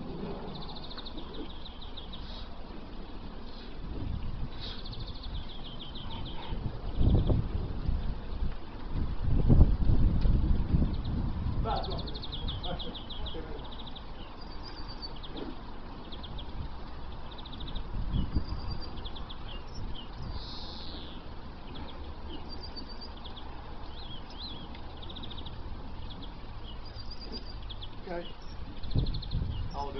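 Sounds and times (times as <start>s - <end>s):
small birds chirping: 0.0s - 9.6s, 10.5s - 29.9s
low background rumble: 0.0s - 29.9s.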